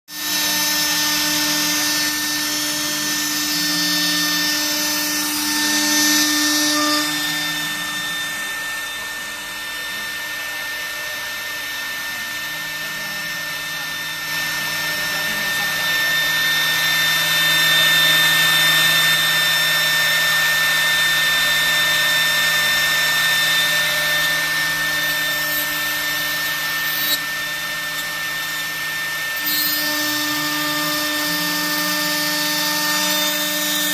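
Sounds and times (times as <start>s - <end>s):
router spindle whine: 0.1s - 33.9s.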